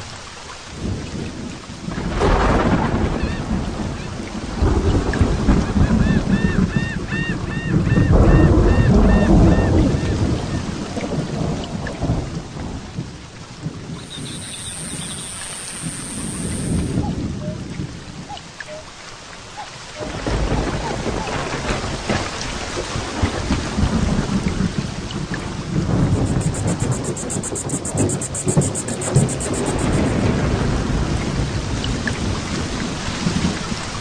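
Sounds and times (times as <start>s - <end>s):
heavy rain falling: 0.0s - 34.0s
thunder rumbling: 0.8s - 18.8s, 20.0s - 34.0s.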